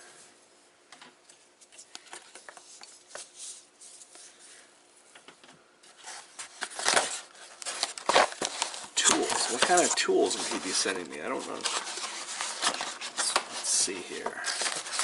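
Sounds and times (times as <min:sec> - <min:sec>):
cardboard and paper rustling: 0:01.6 - 0:04.5, 0:05.8 - 0:15.0.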